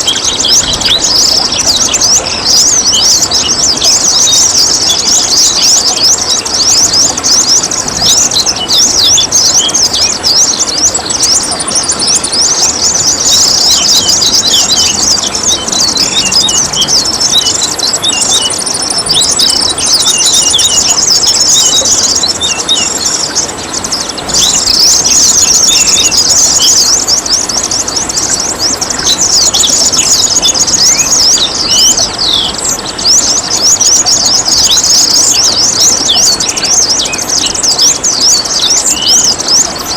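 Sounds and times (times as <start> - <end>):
running water trickling: 0.0 - 39.9
songbirds chirping: 0.0 - 39.9.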